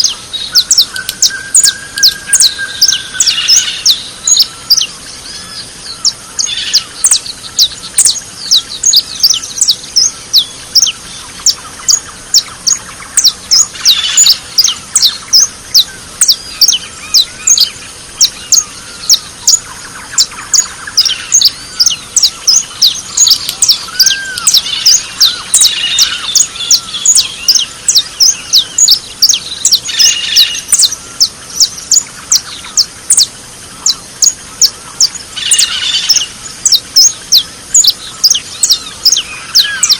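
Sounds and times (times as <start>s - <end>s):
lower bird warbling: 0.0s - 39.9s
small birds chirping: 0.0s - 39.9s.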